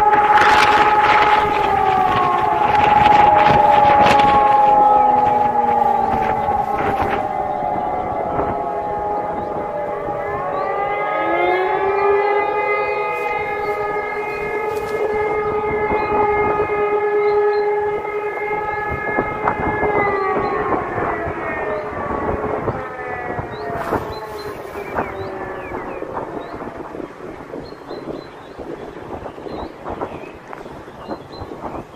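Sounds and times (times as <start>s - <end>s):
warning siren: 0.0s - 31.9s.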